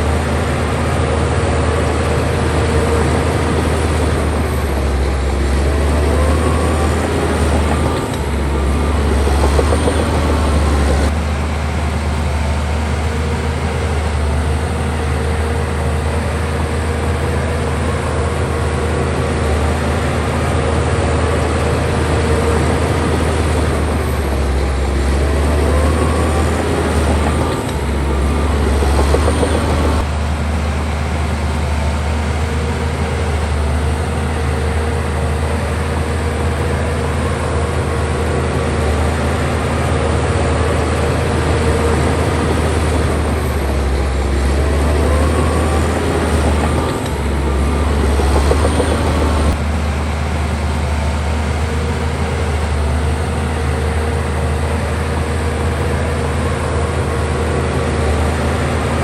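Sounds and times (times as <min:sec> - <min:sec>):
heavy diesel engine droning: 0:00.0 - 0:59.0
high machine whine: 0:00.0 - 0:59.0.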